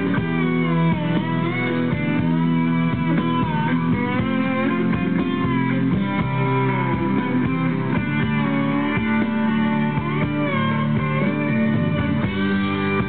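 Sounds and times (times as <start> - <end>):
slow instrumental rock with slide guitar: 0.0 - 13.0.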